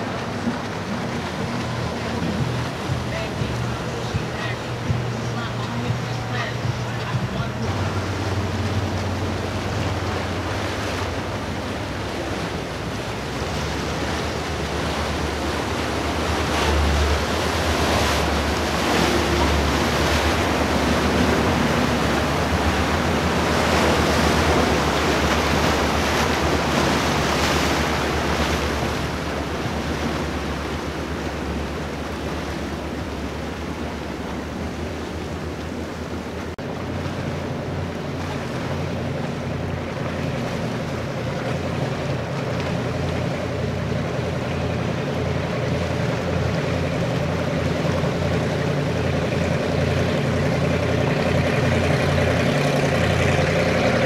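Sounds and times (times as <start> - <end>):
boat engines droning: 0.0 - 54.0
water rushing from waves: 0.0 - 54.0.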